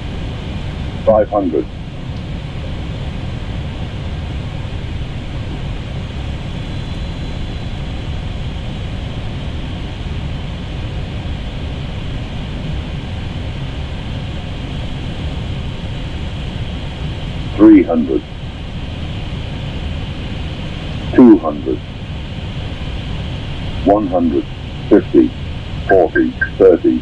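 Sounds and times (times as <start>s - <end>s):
cockpit airflow and engine noise: 0.0s - 27.0s.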